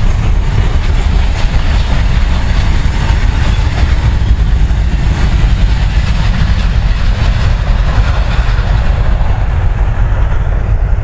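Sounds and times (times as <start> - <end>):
low rumble: 0.0 - 11.0
train wagons clickety-clack: 0.0 - 11.0.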